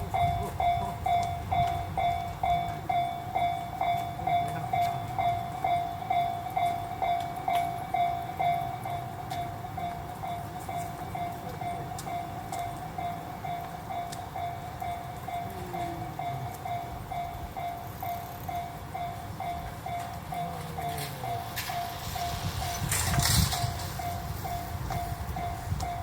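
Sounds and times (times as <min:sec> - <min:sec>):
level-crossing alarm bell ringing: 0:00.0 - 0:26.0.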